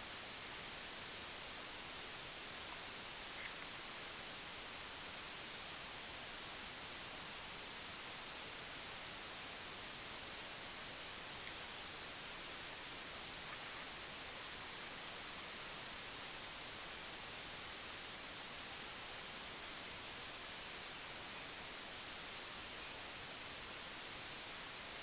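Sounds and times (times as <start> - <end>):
steady static hiss: 0.0 - 25.0.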